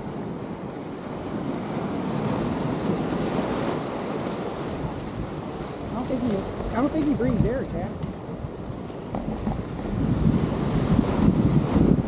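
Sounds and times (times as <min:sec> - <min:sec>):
ocean surf washing: 0:00.0 - 0:12.0
wind rumbling on microphone: 0:00.0 - 0:12.0.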